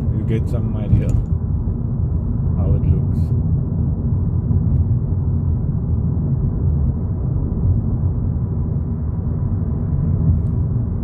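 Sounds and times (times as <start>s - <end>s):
road and engine rumble in car cabin: 0.0s - 11.0s.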